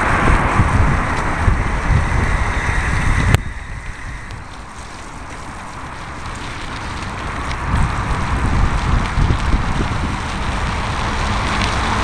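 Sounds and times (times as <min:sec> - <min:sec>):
bicycle road noise: 0:00.0 - 0:12.0
wind buffeting microphone: 0:00.0 - 0:12.0.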